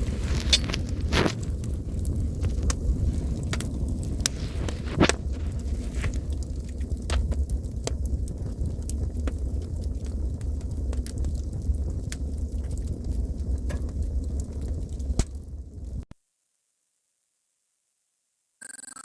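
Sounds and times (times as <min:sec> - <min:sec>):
low rumble: 0:00.0 - 0:16.0
campfire crackling and popping: 0:00.0 - 0:16.1.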